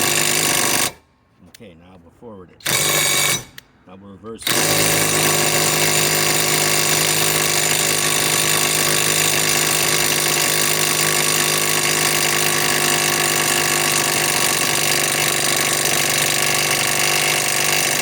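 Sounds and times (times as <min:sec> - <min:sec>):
impact wrench hammering: 0:00.0 - 0:01.0, 0:02.6 - 0:03.8, 0:04.4 - 0:18.0.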